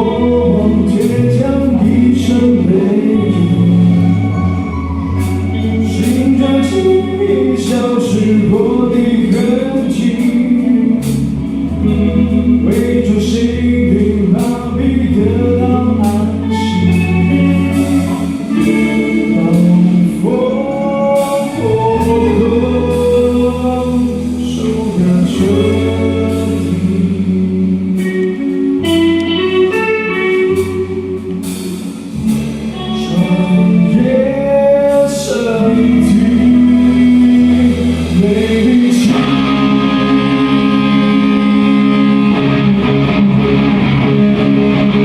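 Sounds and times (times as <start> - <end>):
bass notes: 0.0 - 45.0
person singing: 0.0 - 45.0.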